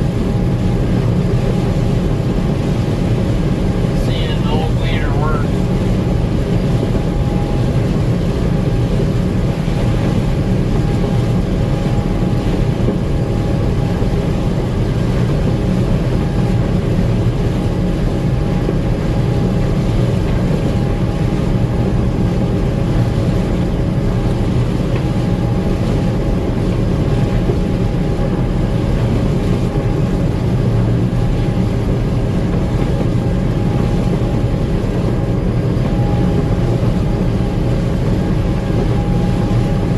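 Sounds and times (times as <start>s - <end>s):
combine engine drone: 0.0s - 39.9s
thin steady whine: 0.0s - 39.9s.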